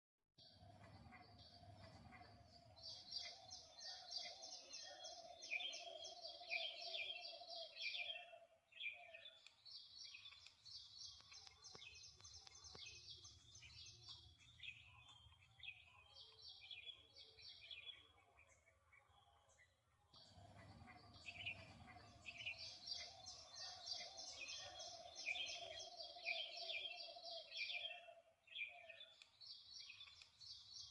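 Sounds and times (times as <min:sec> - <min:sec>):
sparrows chirping: 0:00.4 - 0:30.9.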